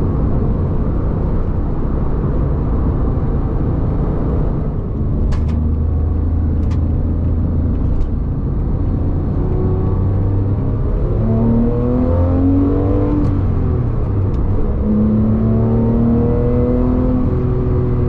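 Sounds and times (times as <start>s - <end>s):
car engine accelerating: 0.0s - 18.0s
road noise: 0.0s - 18.0s.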